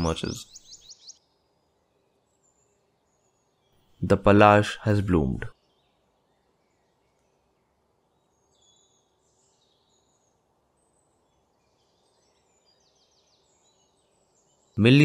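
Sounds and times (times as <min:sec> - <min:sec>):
distant bird chirps: 0:00.0 - 0:15.0
faint forest ambience: 0:00.0 - 0:15.0.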